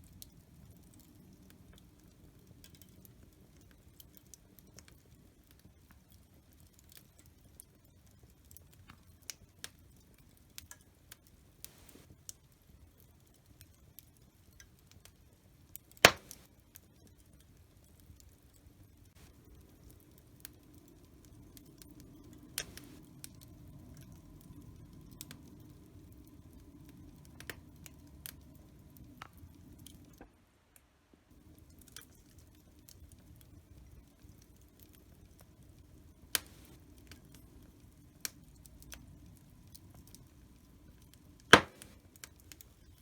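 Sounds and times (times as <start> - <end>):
fire crackling and popping: 0.0 - 30.4, 31.3 - 43.0
fire rumbling: 0.1 - 30.2, 31.4 - 43.0.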